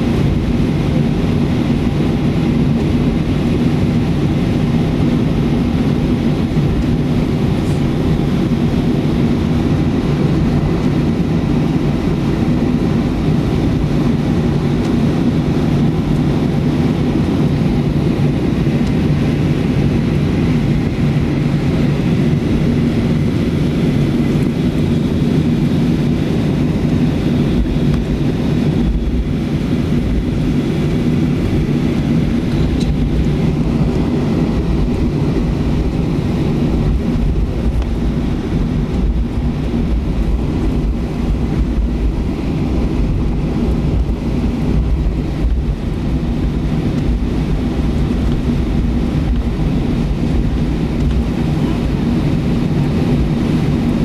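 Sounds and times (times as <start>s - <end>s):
jet engines droning: 0.0s - 54.0s
rushing air noise: 0.0s - 54.0s.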